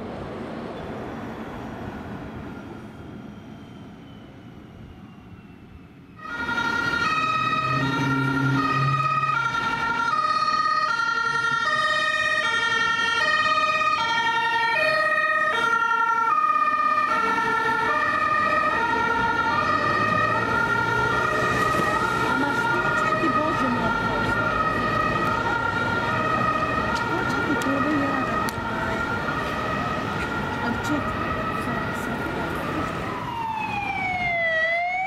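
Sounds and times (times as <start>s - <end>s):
faint traffic noise: 0.0s - 35.0s
two-tone emergency siren: 1.2s - 35.0s
second two-tone siren: 2.6s - 35.0s.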